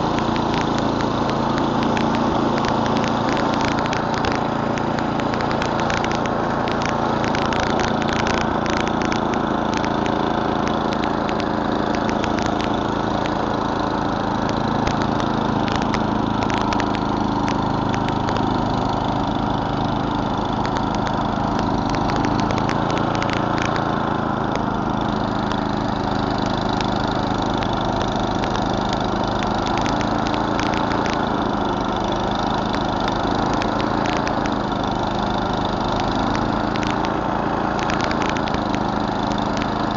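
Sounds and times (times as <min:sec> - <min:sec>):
sharp ticks and clatter: 0:00.0 - 0:39.9
snowblower engine running: 0:00.0 - 0:39.9.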